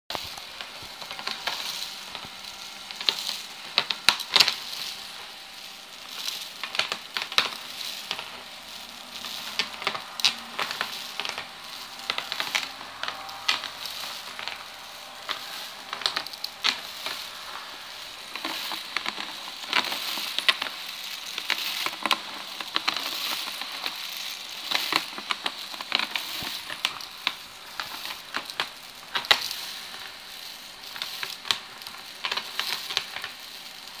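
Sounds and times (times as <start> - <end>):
small dry pieces rattling: 0.1 - 34.0.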